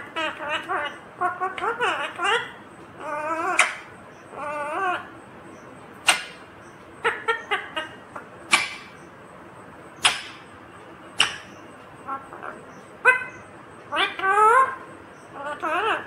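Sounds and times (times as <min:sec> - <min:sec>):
parakeet calling: 0:00.0 - 0:16.0.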